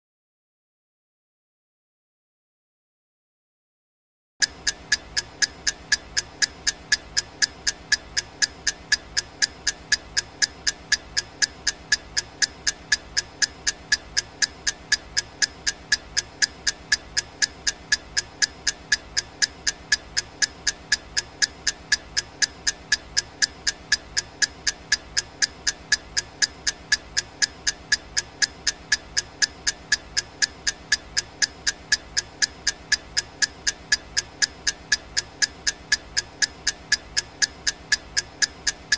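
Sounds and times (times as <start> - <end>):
clock ticking: 4.4 - 38.9.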